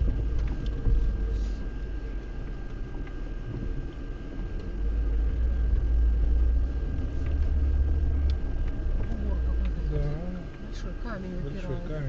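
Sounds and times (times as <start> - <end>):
engine and drivetrain rumble: 0.0 - 12.0
faint high whine: 0.0 - 12.0.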